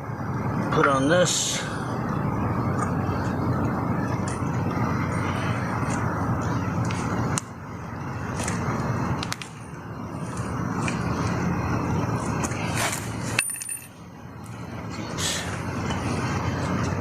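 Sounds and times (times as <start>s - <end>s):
steady background rumble: 0.0s - 17.0s.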